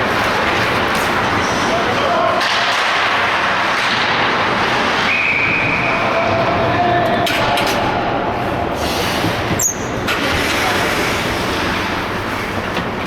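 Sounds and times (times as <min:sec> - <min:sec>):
ice rink noise: 0:00.0 - 0:13.0.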